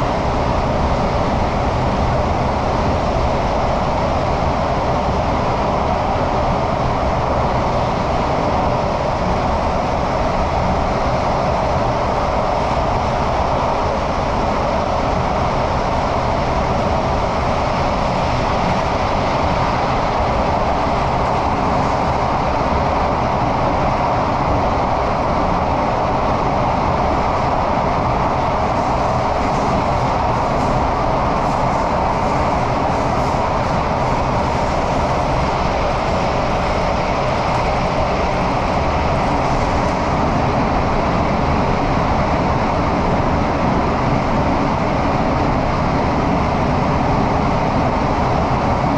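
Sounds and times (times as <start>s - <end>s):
train wheels roaring on rails: 0.0s - 48.9s.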